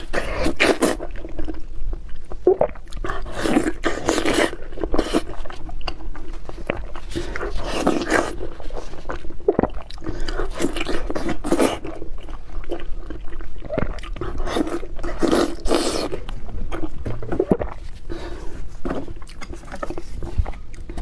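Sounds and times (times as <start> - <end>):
crunchy chewing of cucumber: 0.0 - 21.0.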